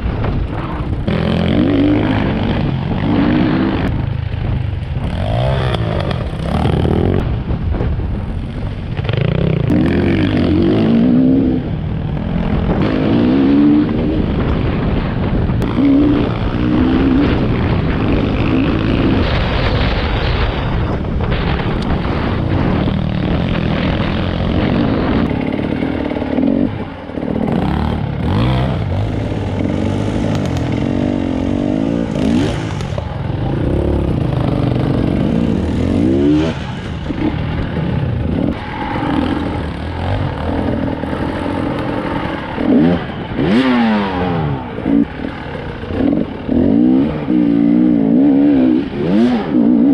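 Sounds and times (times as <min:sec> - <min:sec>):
dirt bike engine revving: 0:00.5 - 0:07.5, 0:08.5 - 0:20.0, 0:21.3 - 0:49.9.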